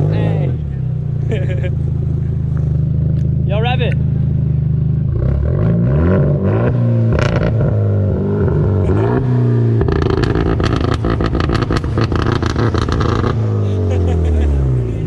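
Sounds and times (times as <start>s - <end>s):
car engine idling and revving: 0.0s - 15.0s
exhaust crackles: 0.0s - 15.0s.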